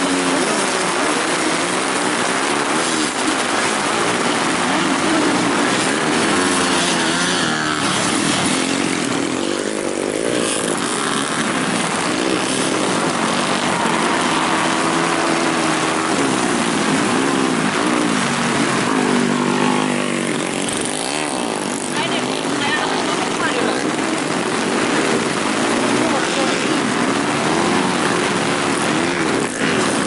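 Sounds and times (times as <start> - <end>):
racing motorcycles revving: 0.0 - 30.0.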